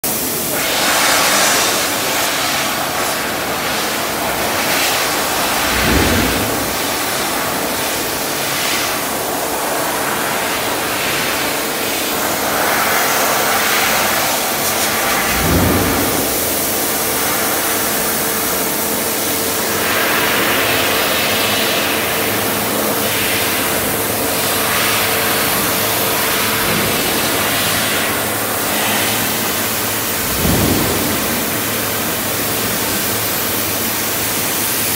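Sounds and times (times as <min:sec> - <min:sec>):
laser cutting machine hissing: 0:00.1 - 0:34.9.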